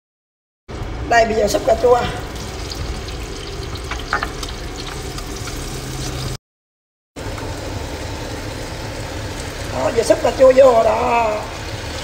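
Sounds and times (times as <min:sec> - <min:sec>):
food sizzling in a pan: 0:01.5 - 0:06.4, 0:07.2 - 0:12.0.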